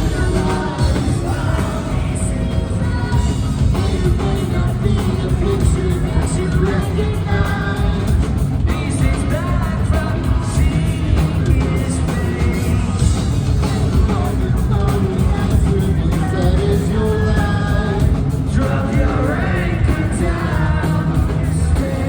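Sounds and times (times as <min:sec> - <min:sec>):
live rock band playing: 0:00.0 - 0:22.0
person singing: 0:00.0 - 0:22.0.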